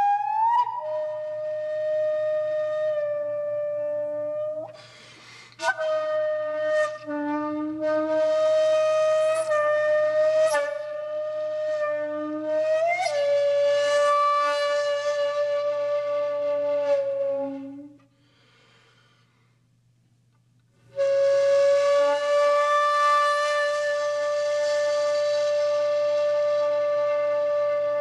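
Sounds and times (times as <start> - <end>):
flute-like wind instrument: 0.0 - 18.1, 20.9 - 28.0.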